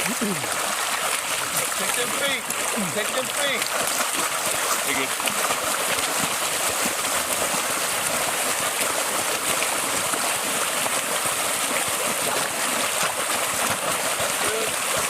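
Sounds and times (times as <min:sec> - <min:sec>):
stream water rushing and gurgling: 0:00.0 - 0:15.0.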